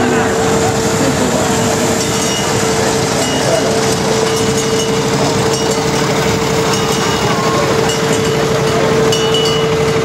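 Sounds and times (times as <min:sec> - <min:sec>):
engines humming: 0:00.0 - 0:10.0.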